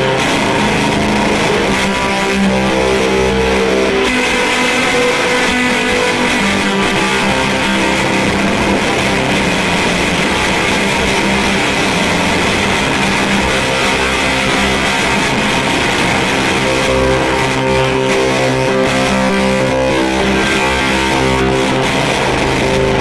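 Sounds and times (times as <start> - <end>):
distorted electric guitar: 0.0 - 23.0.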